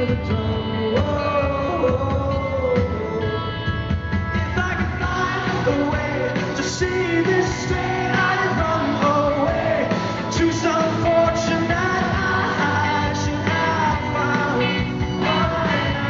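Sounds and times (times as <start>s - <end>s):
live rock song: 0.0s - 16.0s
man singing: 0.0s - 16.0s.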